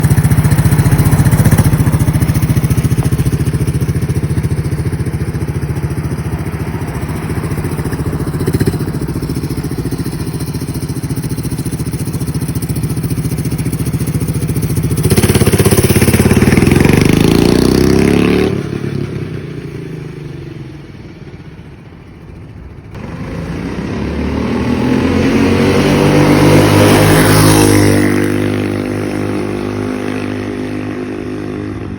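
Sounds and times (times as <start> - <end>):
mini bike engine revving: 0.0 - 20.6, 23.0 - 31.9.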